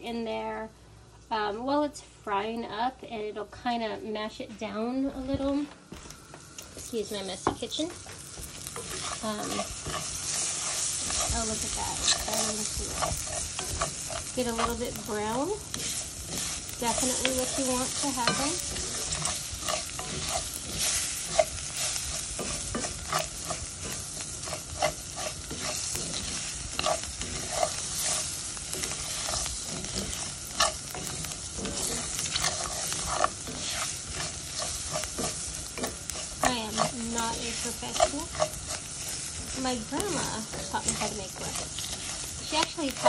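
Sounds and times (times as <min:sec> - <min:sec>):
rice and onion sizzling in oil: 0:05.1 - 0:43.0
spoon scraping against pot: 0:08.3 - 0:43.0.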